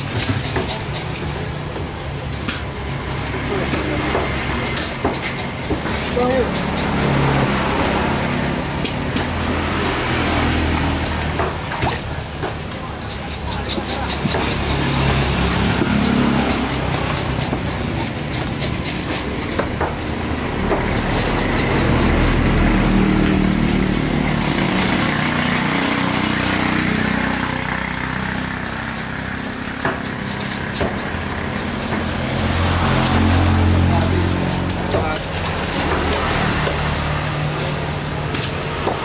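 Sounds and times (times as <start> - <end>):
engine running: 1.1 - 39.0.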